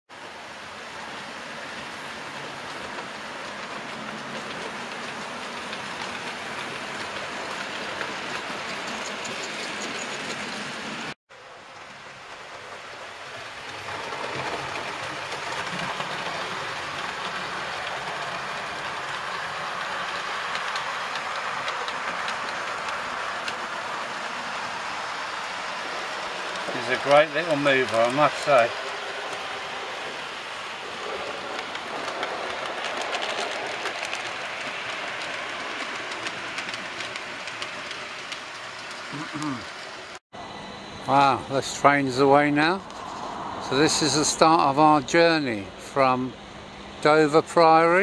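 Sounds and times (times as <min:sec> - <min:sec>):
train running along track: 0:00.1 - 0:48.0.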